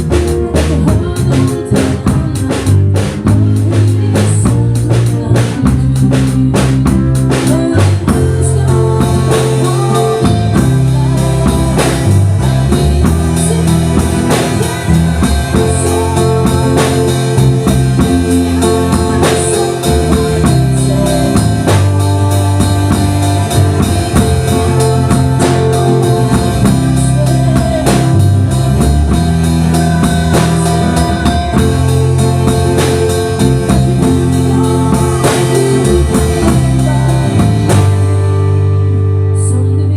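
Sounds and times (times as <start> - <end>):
drum kit beat: 0.0 - 39.5
band music: 0.0 - 39.9
bass notes: 0.0 - 39.9.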